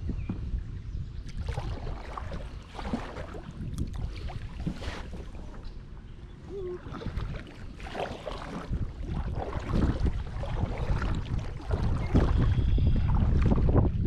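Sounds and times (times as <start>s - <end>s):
water moving around boat: 0.0s - 14.0s
wind buffeting microphone: 0.0s - 14.0s
paddle splashing: 1.2s - 14.0s.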